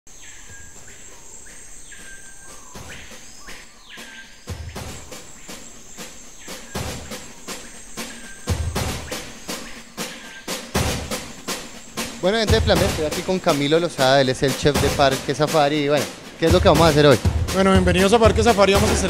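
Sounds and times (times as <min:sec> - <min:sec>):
insects chirring: 0:00.1 - 0:19.0
drum beat with bass thumps: 0:00.4 - 0:19.0.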